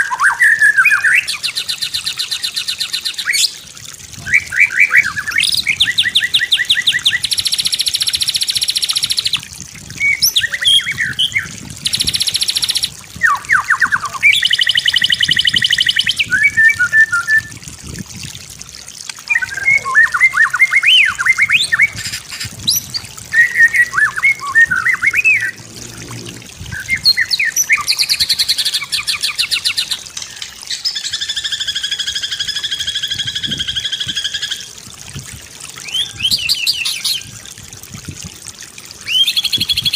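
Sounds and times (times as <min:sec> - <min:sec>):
bird singing trills and whistles: 0:00.0 - 0:03.6, 0:04.2 - 0:09.4, 0:10.0 - 0:17.6, 0:19.3 - 0:25.6, 0:26.7 - 0:34.7, 0:35.8 - 0:37.4, 0:39.0 - 0:39.9.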